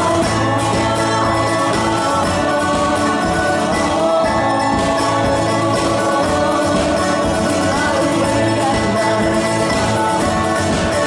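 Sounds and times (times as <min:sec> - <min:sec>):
mandolin: 0:00.0 - 0:11.0
strummed acoustic guitar: 0:00.0 - 0:11.0
two women singing: 0:00.0 - 0:11.0.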